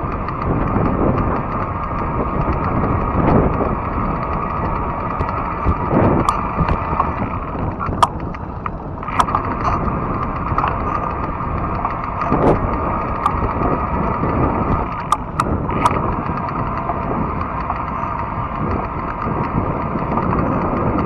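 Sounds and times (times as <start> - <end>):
tires rumbling on trail: 0.0 - 21.0.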